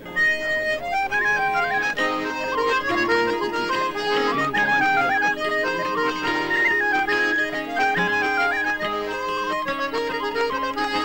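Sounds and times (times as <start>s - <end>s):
quick folk tune on instruments: 0.0s - 11.0s.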